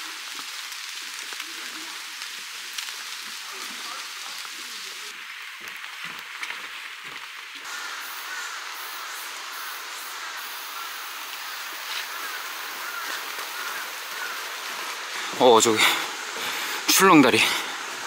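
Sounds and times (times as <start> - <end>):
light rain on foliage: 0.0 - 18.0.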